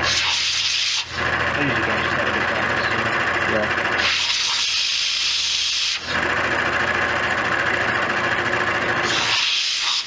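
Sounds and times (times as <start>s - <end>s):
metal lathe cutting: 0.0s - 10.0s.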